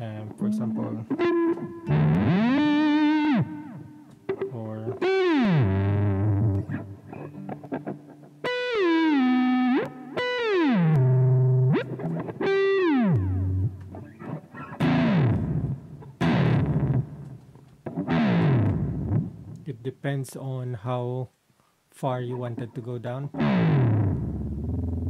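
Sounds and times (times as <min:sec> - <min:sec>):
distorted electric guitar dive bombs: 0:00.0 - 0:19.7, 0:23.2 - 0:25.0.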